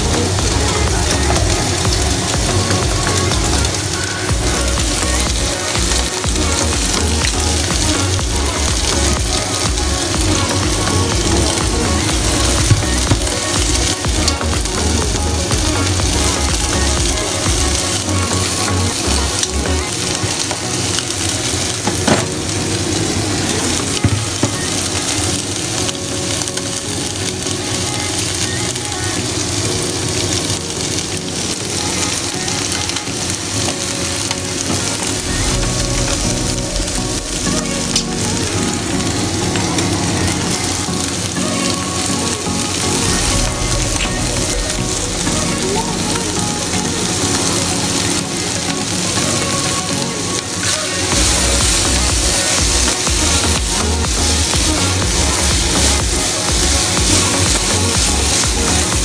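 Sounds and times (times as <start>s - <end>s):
vegetables sizzling in a pan: 0.0s - 59.0s.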